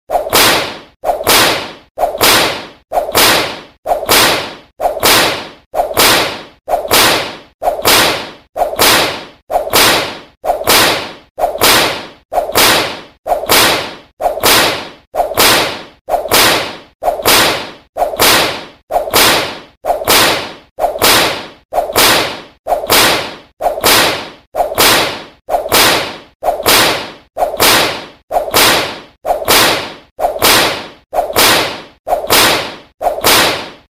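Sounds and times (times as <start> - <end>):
whip cracking: 0.1 - 33.9.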